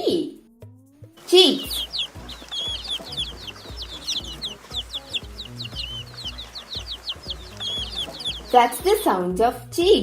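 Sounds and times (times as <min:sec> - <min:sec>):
background music with steady beat: 0:00.0 - 0:10.0
baby chicks peeping: 0:01.2 - 0:10.0.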